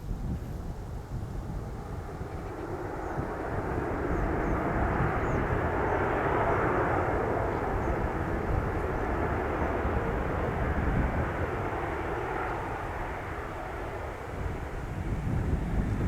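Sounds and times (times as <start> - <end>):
wind rumble on microphone: 0.0 - 16.0
jet engine roar: 1.3 - 16.0.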